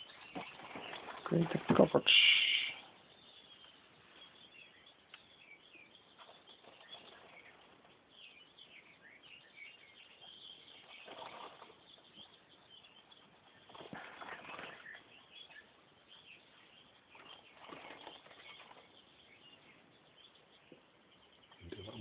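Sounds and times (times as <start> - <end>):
small birds chirping: 0.0 - 22.0
soft rustle: 0.0 - 22.0.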